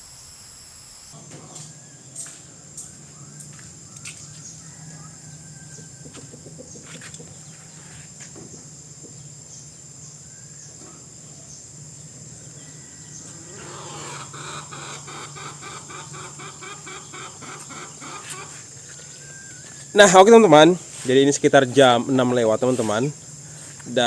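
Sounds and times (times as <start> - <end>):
chickens clucking: 1.2 - 24.0
fast repeated chicken calls: 1.2 - 24.0.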